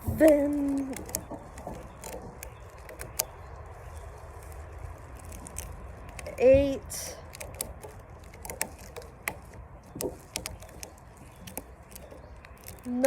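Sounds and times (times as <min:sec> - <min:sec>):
low background rumble: 0:00.0 - 0:13.0
rubber band snapping: 0:00.0 - 0:13.0.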